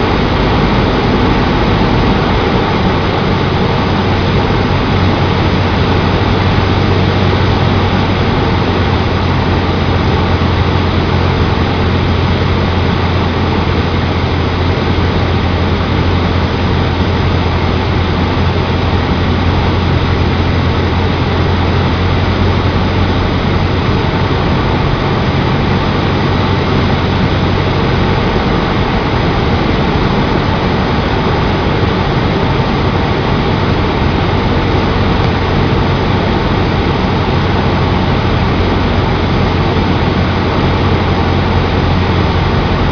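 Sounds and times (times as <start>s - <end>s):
loud rushing noise: 0.0s - 42.9s
propeller plane engine: 0.0s - 42.9s.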